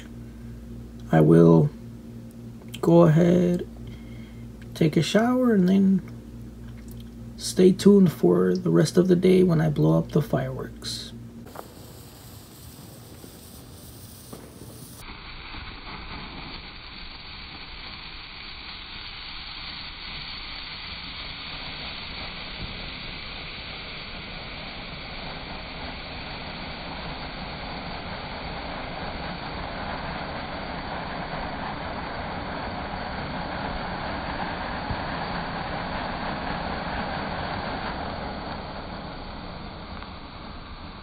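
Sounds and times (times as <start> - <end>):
firework fountain hissing: 0.0 - 1.8, 2.7 - 6.1, 7.4 - 41.0
firework fuse sputtering: 0.0 - 41.0.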